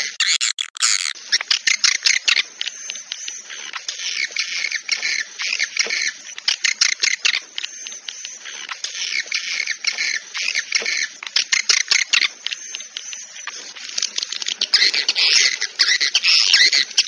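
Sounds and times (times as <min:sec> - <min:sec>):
swiftlets chirping and twittering: 0:00.0 - 0:17.0.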